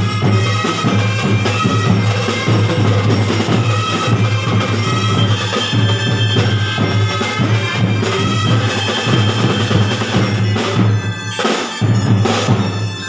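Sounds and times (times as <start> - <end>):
drumline percussion: 0.0 - 13.0.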